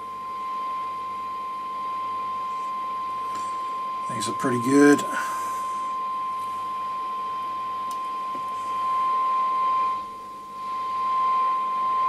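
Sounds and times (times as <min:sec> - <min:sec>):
steady test tone from loudspeaker: 0:00.0 - 0:12.0.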